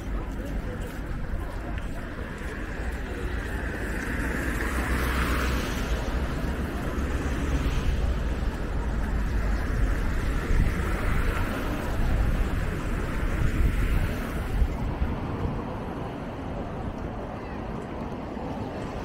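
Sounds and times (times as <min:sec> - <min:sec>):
traffic of buses and cars: 0:00.0 - 0:19.0
wind rumbling on microphone: 0:00.0 - 0:19.0.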